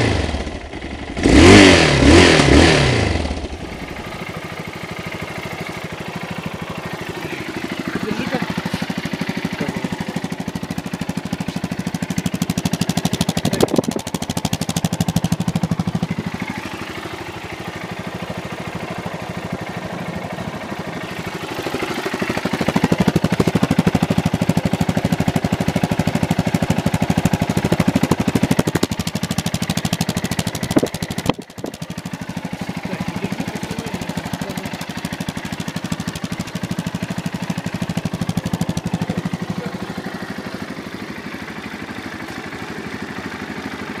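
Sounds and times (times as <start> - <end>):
motorcycle engine idling and revving: 0.0 - 44.0.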